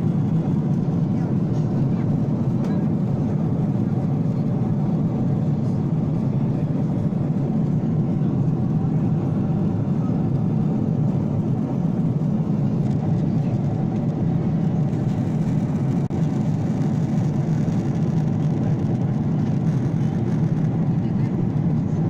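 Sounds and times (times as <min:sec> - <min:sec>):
airliner cabin hum: 0:00.0 - 0:22.0.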